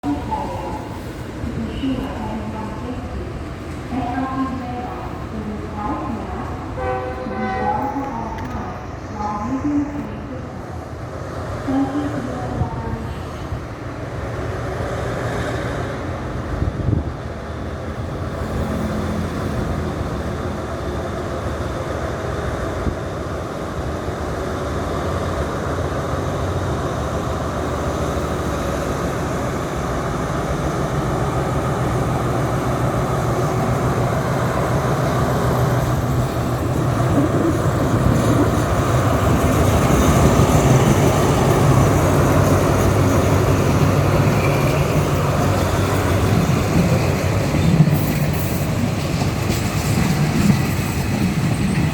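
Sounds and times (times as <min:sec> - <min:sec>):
diesel locomotive engine under throttle: 0:00.0 - 0:51.9.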